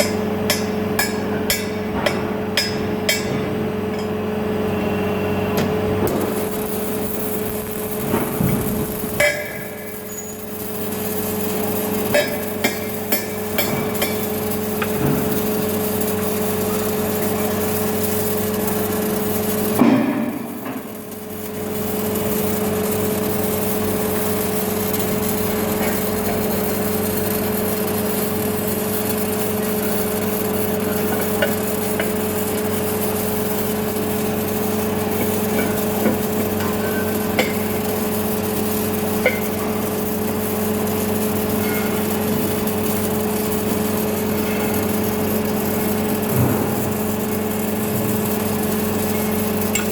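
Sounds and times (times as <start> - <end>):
welding machine electrical hum: 0.0 - 49.9.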